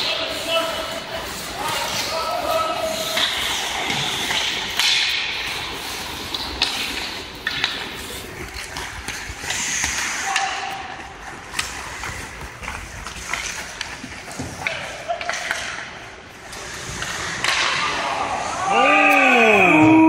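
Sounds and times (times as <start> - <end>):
skates scraping on ice: 0.0 - 19.7
hockey sticks striking puck: 0.0 - 20.0.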